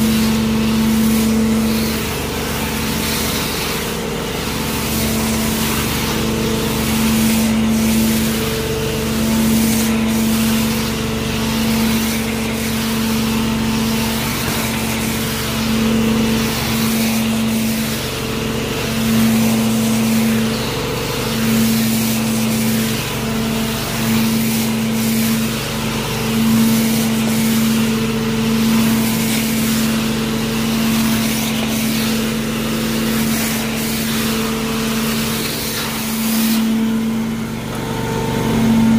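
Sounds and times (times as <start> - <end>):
carpet extraction machine humming: 0.0 - 38.9.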